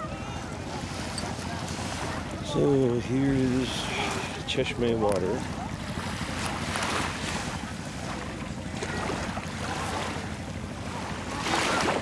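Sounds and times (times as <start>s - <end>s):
small waves washing onto shore: 0.0s - 12.0s.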